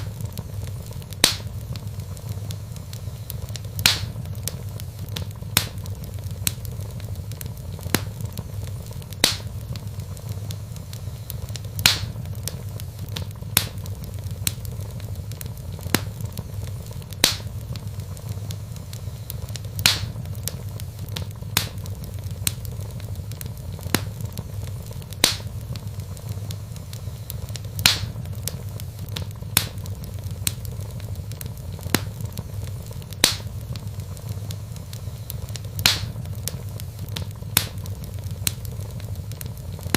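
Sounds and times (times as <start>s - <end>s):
fire low rumble: 0.0s - 39.9s
wood fire crackling and popping: 0.0s - 39.9s.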